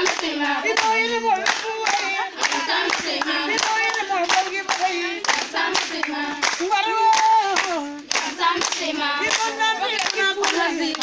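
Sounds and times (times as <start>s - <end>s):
children singing together: 0.0s - 11.0s
hand claps: 0.0s - 11.0s.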